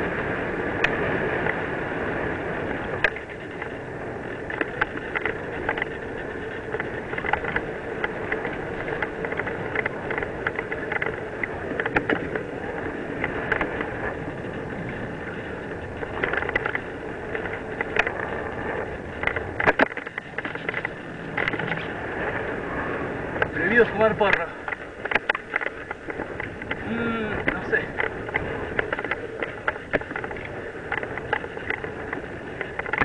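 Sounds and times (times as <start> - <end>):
bike rattling over bumps: 0.0 - 33.0
bike tyres on dirt trail: 0.0 - 33.0
wind noise: 0.0 - 33.0.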